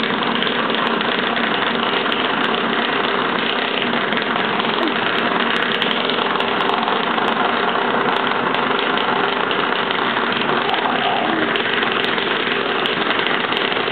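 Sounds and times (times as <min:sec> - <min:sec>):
vibrating massager buzzing: 0:00.0 - 0:13.9.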